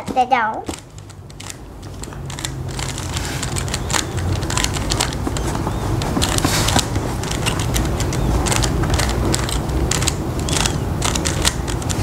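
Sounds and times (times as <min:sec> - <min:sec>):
plastic cube puzzle clicking: 0:00.7 - 0:12.0.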